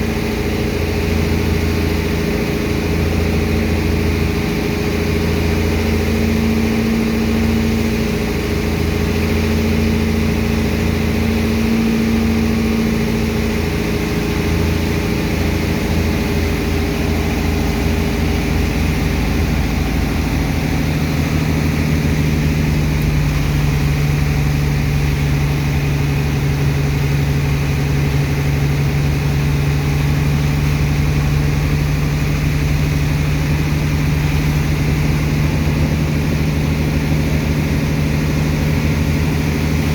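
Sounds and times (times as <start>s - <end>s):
heavy dredger engine running: 0.0s - 39.9s.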